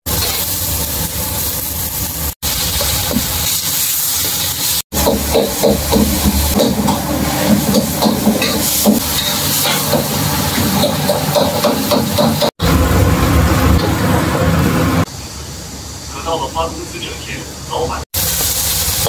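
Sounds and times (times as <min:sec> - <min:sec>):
vegetables sizzling in a wok: 0:00.0 - 0:16.2, 0:18.1 - 0:19.0.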